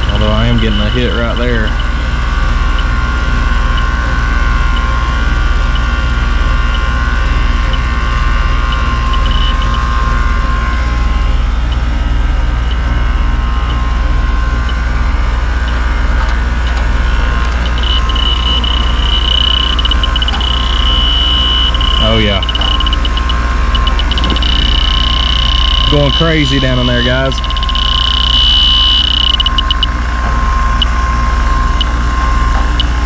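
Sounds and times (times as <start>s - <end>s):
leak detector ticking and shrieking: 0.0s - 33.0s
low hum: 0.0s - 33.0s.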